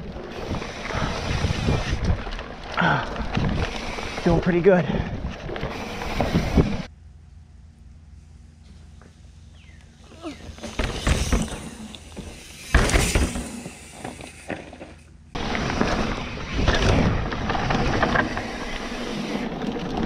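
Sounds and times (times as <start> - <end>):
bike tyres crunching over rock: 0.0 - 6.9, 9.6 - 20.0
wind and tyre noise: 0.0 - 7.0, 8.9 - 20.0.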